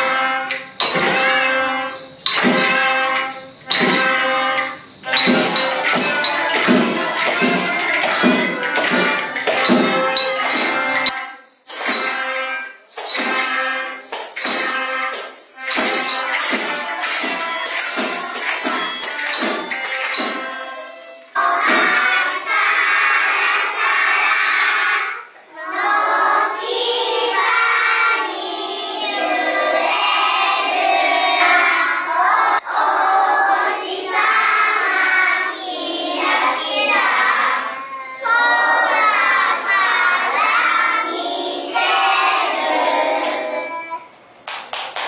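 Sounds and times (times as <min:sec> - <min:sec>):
children singing in unison: 0:00.0 - 0:11.2, 0:11.8 - 0:20.7, 0:21.4 - 0:44.2.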